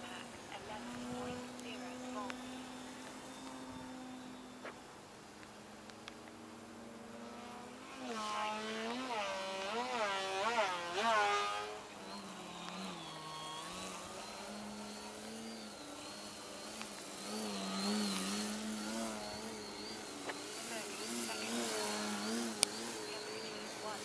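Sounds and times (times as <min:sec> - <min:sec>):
model plane motor buzzing: 0:00.0 - 0:24.0.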